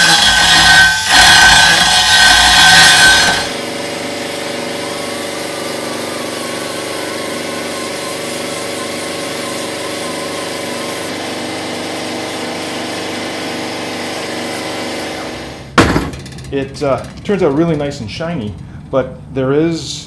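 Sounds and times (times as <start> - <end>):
pneumatic die grinder on steel: 0.0 - 16.5.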